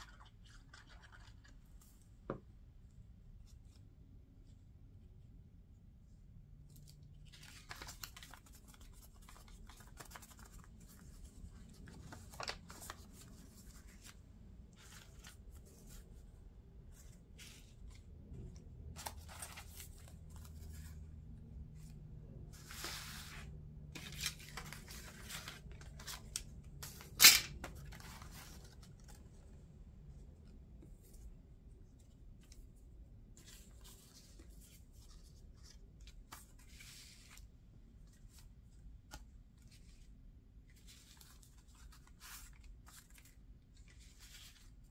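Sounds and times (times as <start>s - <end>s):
paper rustling and crinkling: 6.7s - 44.9s.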